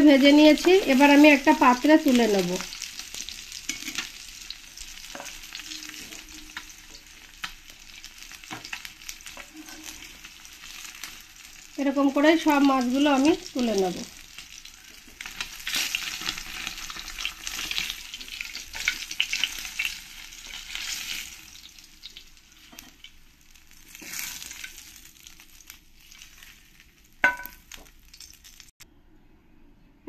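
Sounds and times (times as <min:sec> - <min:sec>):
fish sizzling in hot oil: 0:00.0 - 0:28.8.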